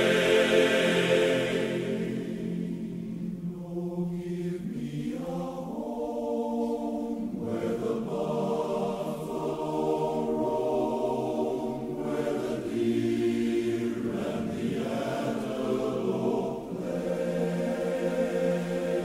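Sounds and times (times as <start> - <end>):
men's chorus singing: 0.0 - 19.0.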